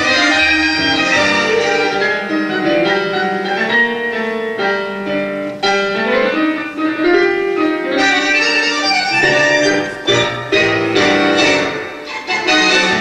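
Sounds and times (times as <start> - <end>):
piano chords: 0.0 - 13.0
tango orchestra playing: 0.0 - 13.0.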